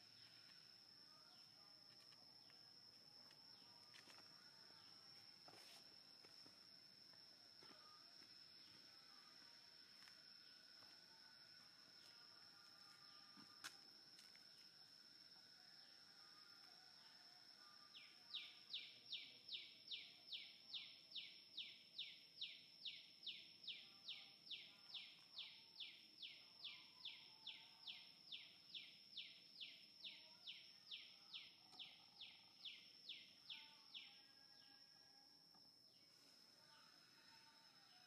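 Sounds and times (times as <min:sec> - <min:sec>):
high-pitched insect drone: 0:00.0 - 0:34.9, 0:35.9 - 0:38.0.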